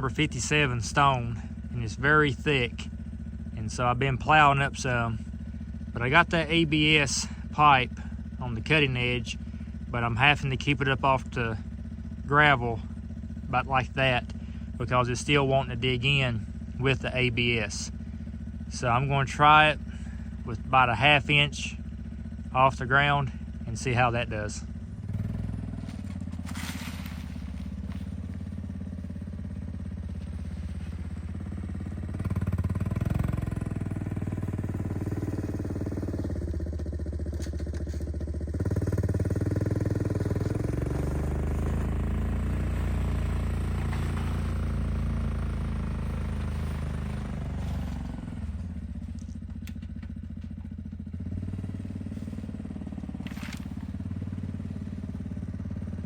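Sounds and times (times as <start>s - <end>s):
atv engine running under load: 0.0s - 56.0s
plow blade pushing snow: 0.0s - 56.0s.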